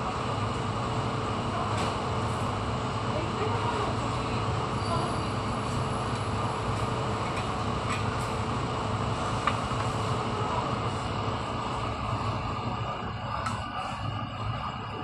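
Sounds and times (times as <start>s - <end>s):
broad noise: 0.0s - 15.0s.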